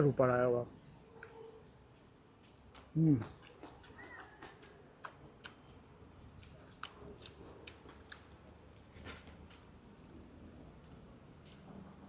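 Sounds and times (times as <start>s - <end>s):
man chewing food: 0.6s - 12.0s.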